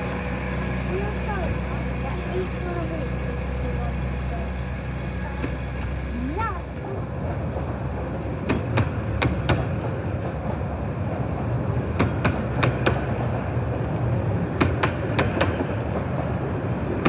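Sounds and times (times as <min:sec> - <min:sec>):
train rumbling: 0:00.0 - 0:17.0
wheels clicking over rail joints: 0:00.0 - 0:17.0.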